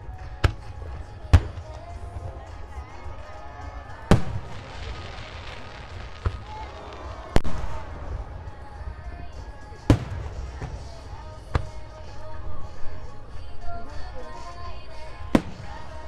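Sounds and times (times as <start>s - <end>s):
fireworks shells booming: 0.0s - 12.4s, 15.2s - 16.0s
crackling hiss of fireworks: 0.0s - 16.0s.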